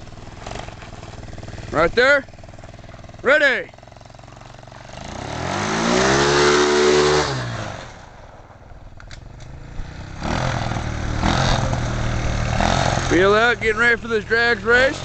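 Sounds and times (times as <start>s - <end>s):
small engine revving: 0.0s - 8.2s, 9.2s - 15.0s.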